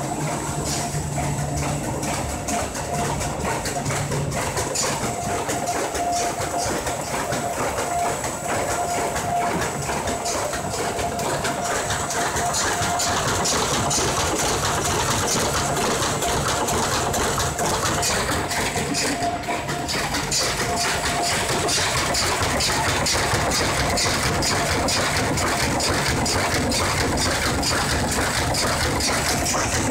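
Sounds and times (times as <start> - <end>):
constant machine hum: 0.0 - 29.9
machine clattering: 0.0 - 29.9.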